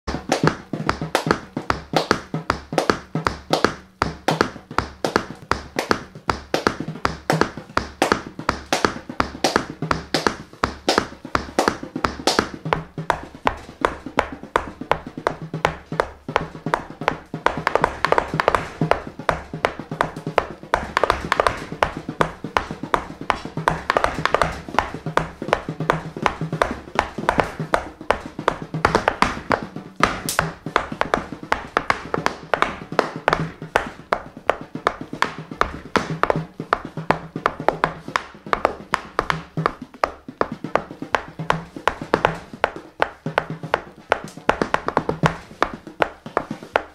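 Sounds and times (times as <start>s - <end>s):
tap shoes on wooden board: 0.0s - 46.9s.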